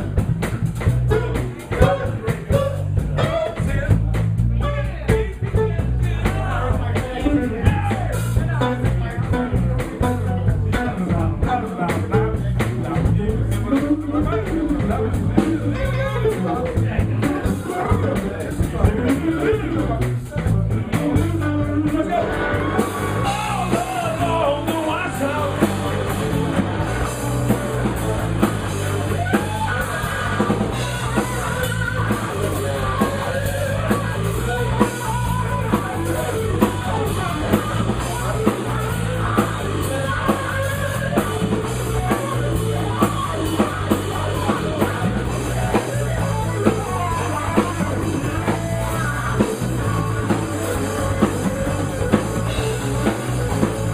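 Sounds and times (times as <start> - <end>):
drum kit steady beat: 0.0 - 53.9
rock band playing: 0.0 - 53.9.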